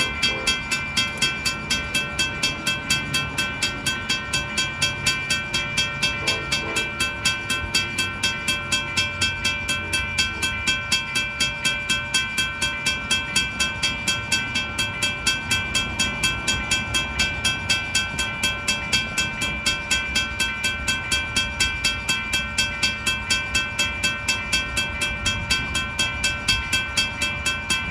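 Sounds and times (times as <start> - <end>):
crossing bell ringing: 0.0 - 27.9.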